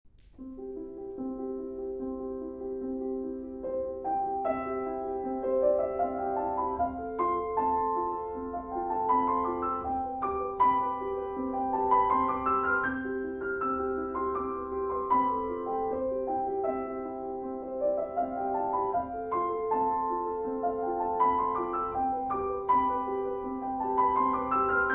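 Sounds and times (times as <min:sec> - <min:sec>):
calm piano music: 0:00.1 - 0:24.9.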